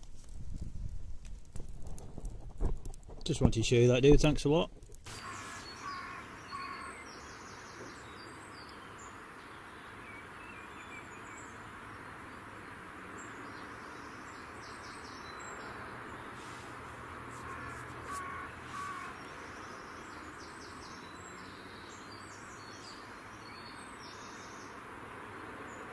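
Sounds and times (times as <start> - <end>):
small birds chirping: 3.2 - 25.9
steady background hiss: 3.3 - 25.9.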